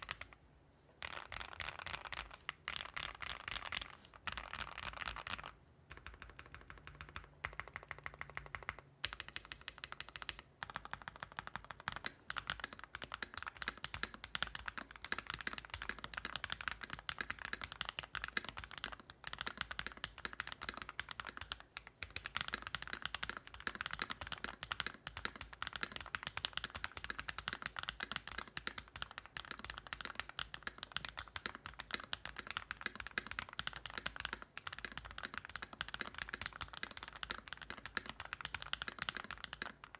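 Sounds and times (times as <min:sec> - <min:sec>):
fast mechanical keyboard typing: 0:01.0 - 0:39.9.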